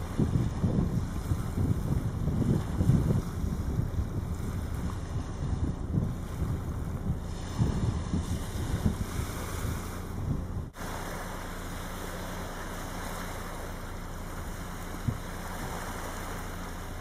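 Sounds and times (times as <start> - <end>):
small waves on sandy beach: 0.0 - 17.0
wind buffeting microphone: 0.0 - 17.0.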